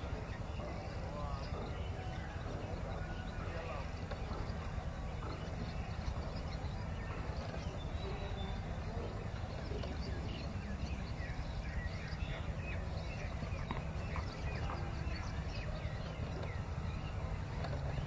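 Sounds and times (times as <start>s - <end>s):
steady low rumble: 0.0s - 18.0s
swallows twittering: 0.0s - 18.0s.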